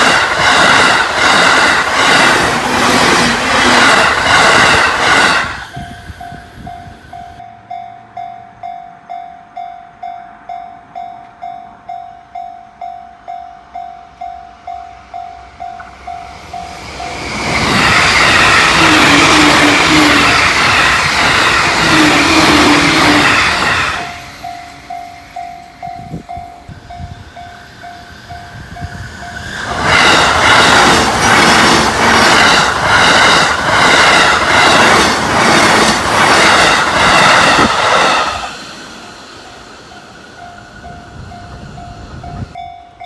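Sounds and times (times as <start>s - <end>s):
train wheels rushing on rails: 0.0s - 7.5s, 14.6s - 42.6s
crossing warning bell dinging: 0.0s - 43.0s.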